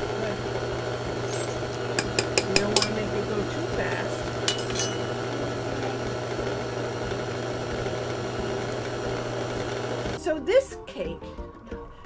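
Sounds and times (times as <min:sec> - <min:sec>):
stand mixer motor hum: 0:00.0 - 0:10.2.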